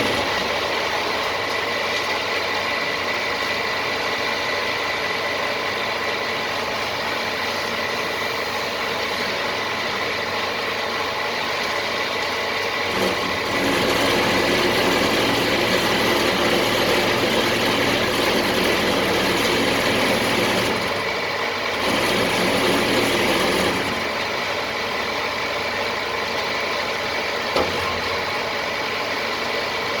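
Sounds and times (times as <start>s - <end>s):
concrete mixer engine running: 0.0s - 30.0s.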